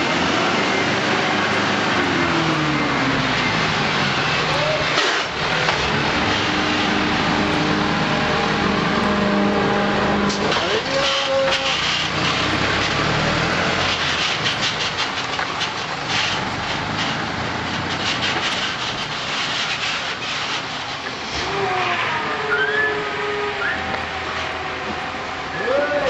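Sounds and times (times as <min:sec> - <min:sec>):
garbage truck diesel engine: 0:00.0 - 0:26.0.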